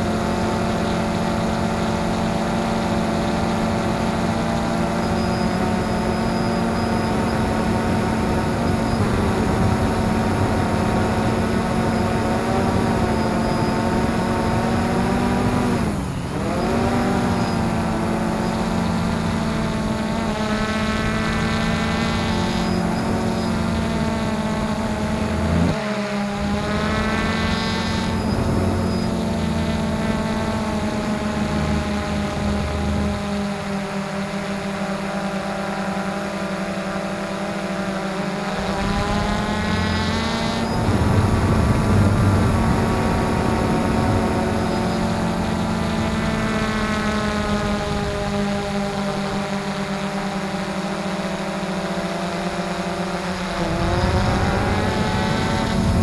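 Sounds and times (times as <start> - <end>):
quadcopter propellers whirring: 0.0 - 56.0.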